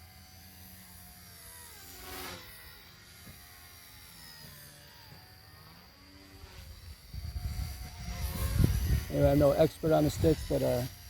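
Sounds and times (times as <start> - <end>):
toy helicopter motor whine: 0.0 - 11.0.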